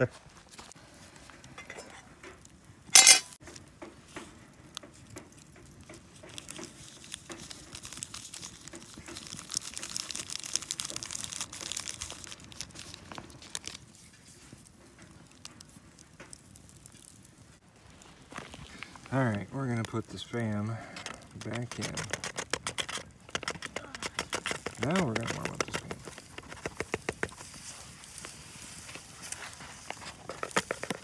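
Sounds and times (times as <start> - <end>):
foil packet crinkling: 5.4 - 31.0.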